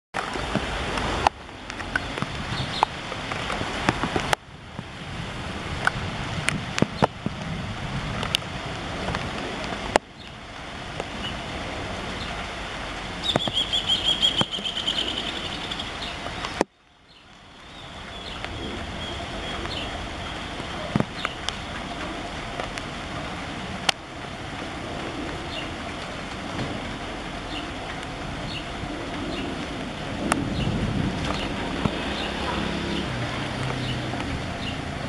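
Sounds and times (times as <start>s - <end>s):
distant jet engine roar: 0.2s - 16.6s, 17.2s - 35.0s
wind noise: 0.2s - 16.7s, 17.4s - 35.0s.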